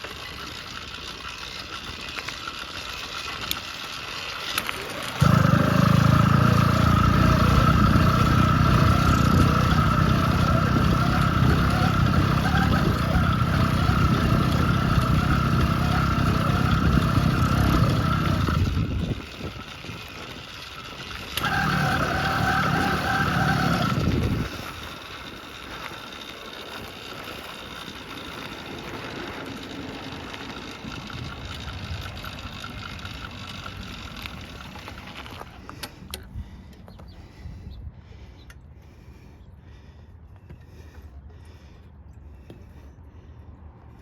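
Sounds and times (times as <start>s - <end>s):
two-stroke bicycle engine running: 0.0s - 37.5s.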